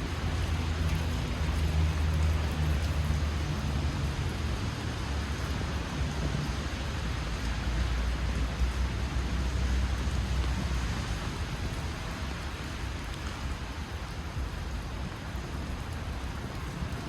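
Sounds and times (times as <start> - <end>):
rain hissing on street: 0.0 - 17.0.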